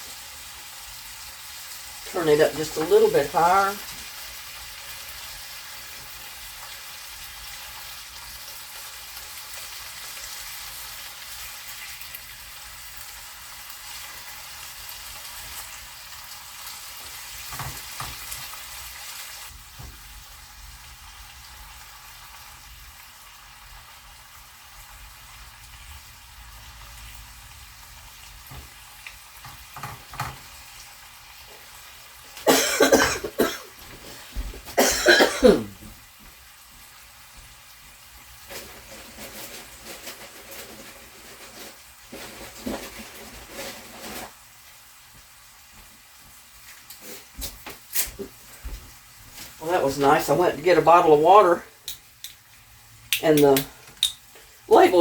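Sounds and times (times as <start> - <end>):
chicken sizzling in hot oil: 0.0 - 34.8, 35.6 - 55.0.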